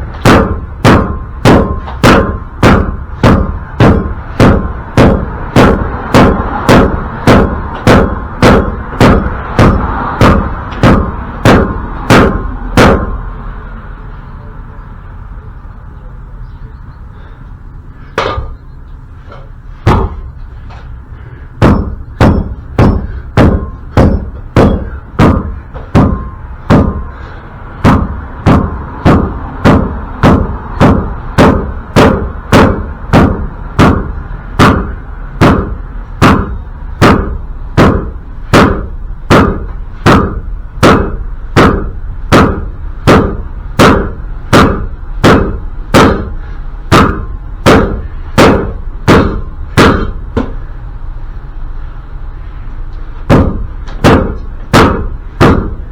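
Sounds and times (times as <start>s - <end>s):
hammer striking metal: 0.0s - 13.5s, 18.2s - 20.4s, 21.6s - 50.7s, 53.2s - 55.9s.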